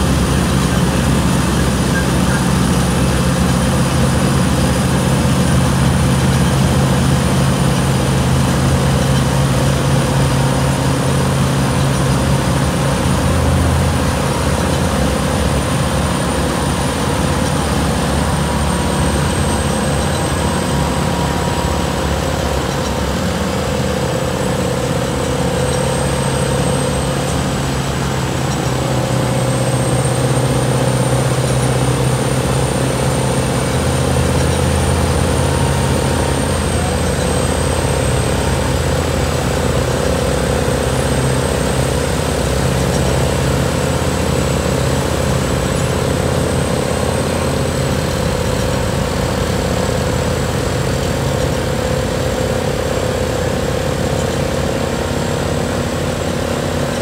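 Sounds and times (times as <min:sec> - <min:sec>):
road milling machine din: 0:00.0 - 0:57.0.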